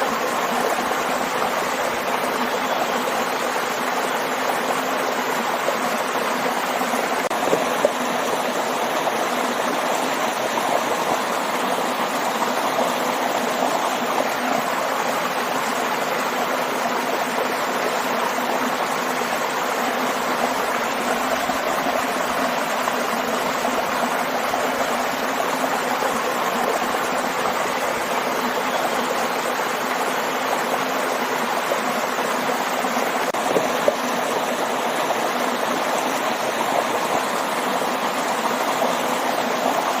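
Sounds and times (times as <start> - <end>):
waterfall and stream rushing: 0.0 - 40.0.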